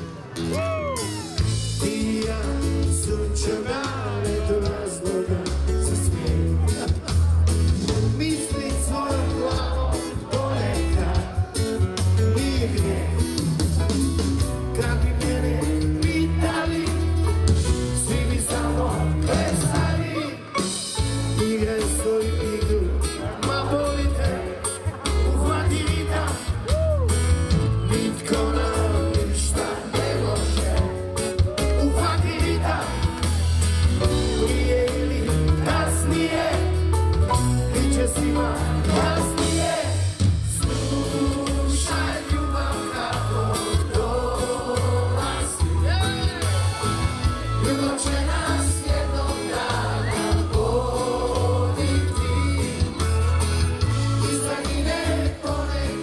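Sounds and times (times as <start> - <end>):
low bass: 0.0 - 20.1, 21.0 - 56.0
live rock band: 0.0 - 56.0
strummed acoustic guitars: 0.0 - 56.0
lead singer singing: 0.5 - 7.1, 7.8 - 46.8, 47.4 - 56.0.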